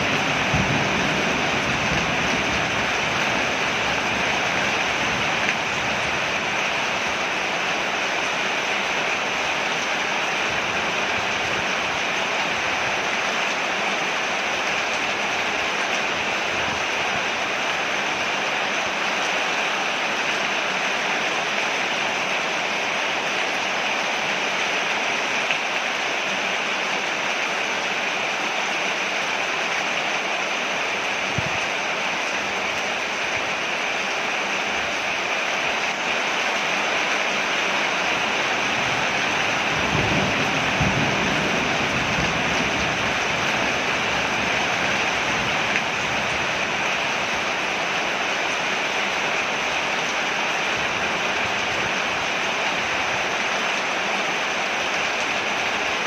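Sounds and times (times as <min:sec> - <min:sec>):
heavy rain on a porch: 0:00.0 - 0:56.0.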